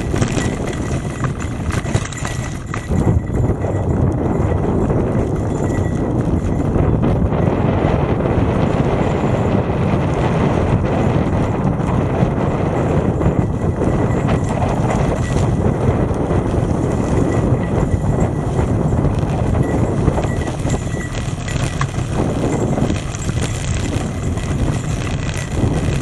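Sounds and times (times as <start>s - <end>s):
bicycle rattling clicks: 0.0s - 26.0s
bicycle tyres and wind rumbling: 0.0s - 26.0s.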